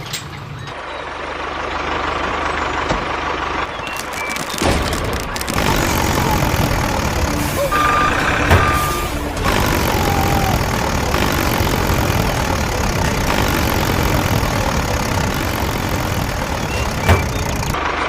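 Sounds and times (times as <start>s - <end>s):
steady engine noise: 0.7s - 18.0s.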